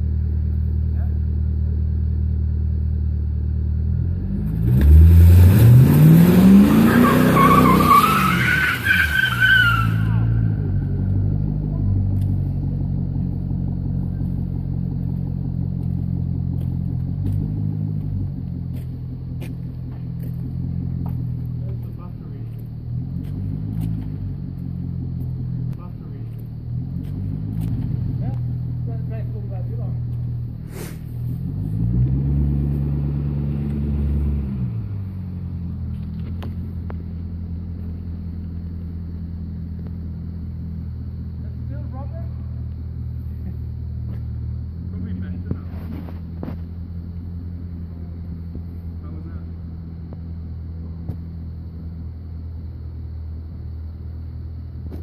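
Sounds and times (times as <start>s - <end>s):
car engine rumbling at low revs: 0.0s - 55.0s.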